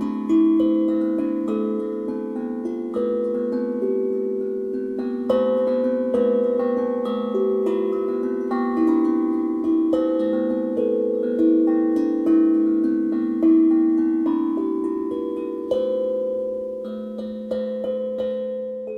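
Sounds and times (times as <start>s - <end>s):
steel tongue drum notes: 0.0s - 18.9s.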